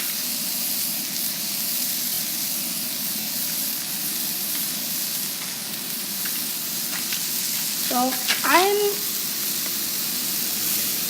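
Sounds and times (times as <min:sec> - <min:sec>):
chicken frying sizzle: 0:00.0 - 0:11.0.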